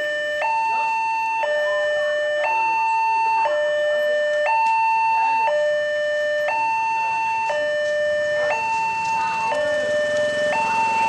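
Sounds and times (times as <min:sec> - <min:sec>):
two-tone crossing siren: 0:00.0 - 0:11.0.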